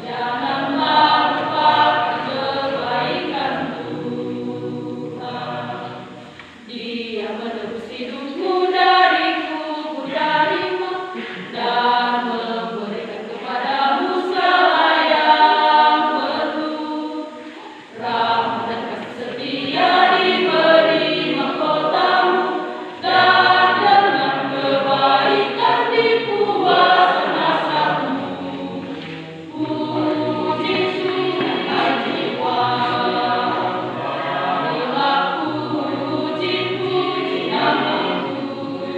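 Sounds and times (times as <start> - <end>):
choir of women singing a hymn: 0.0 - 38.9.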